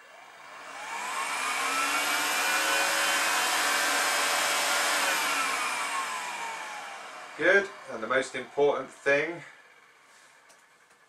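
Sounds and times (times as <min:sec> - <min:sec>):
blower fan whirring: 0:00.0 - 0:11.0.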